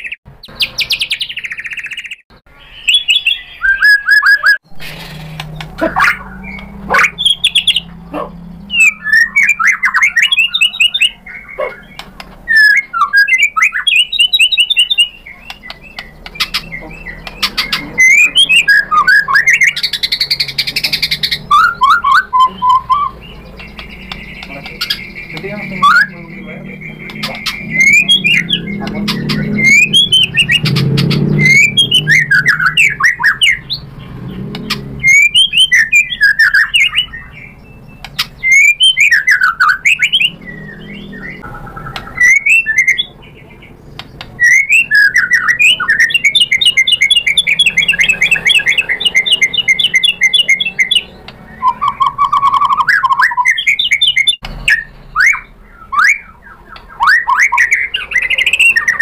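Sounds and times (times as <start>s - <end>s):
bird singing whistled phrases: 0.0s - 33.9s, 34.7s - 43.5s, 44.4s - 59.0s
bird trilling: 0.0s - 59.0s.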